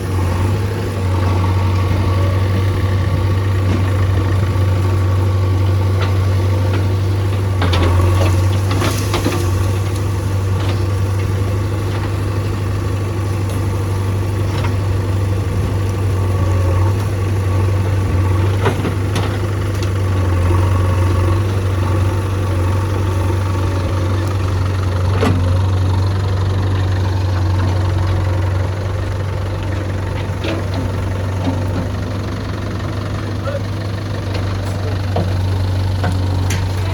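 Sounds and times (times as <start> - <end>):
diesel engine humming: 0.0 - 36.9.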